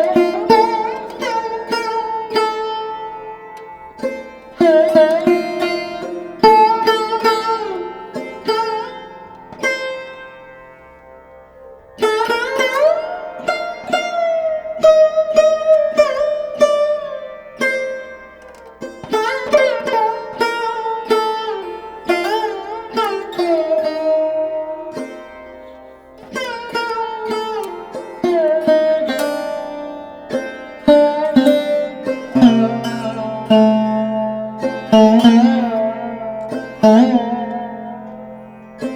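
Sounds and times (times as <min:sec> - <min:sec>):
plucked string instrument melody: 0:00.0 - 0:38.9.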